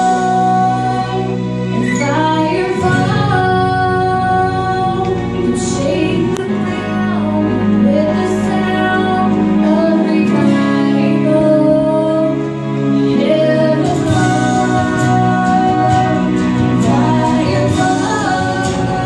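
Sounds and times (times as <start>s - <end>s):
guitar accompaniment: 0.0s - 19.0s
woman singing: 0.0s - 19.0s.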